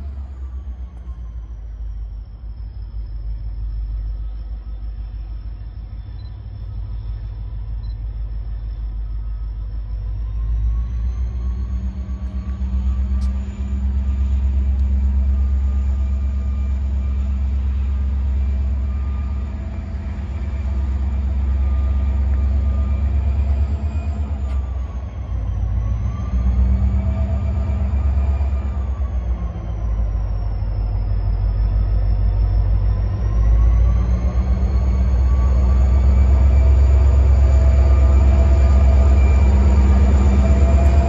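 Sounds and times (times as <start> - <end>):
train rumbling: 0.0 - 41.0
train motor tone: 3.1 - 41.0.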